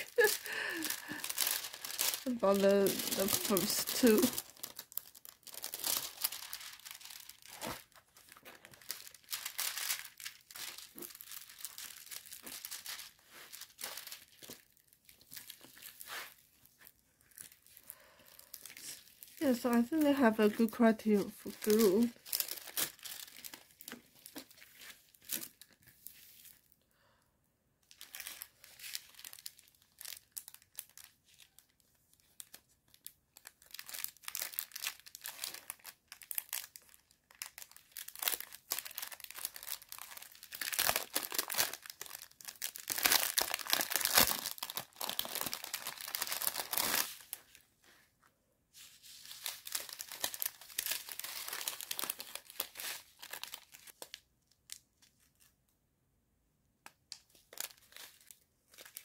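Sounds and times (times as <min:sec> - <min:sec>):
plastic packaging crinkling: 0:00.0 - 0:26.7, 0:27.8 - 0:48.0, 0:48.8 - 0:55.6, 0:56.8 - 0:59.0.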